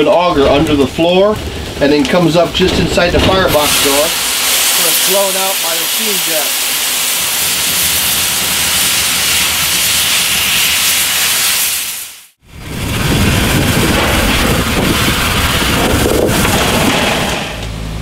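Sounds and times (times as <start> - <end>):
rush of steam with deep rumble: 0.0 - 18.0
steam jets hissing: 0.7 - 17.7.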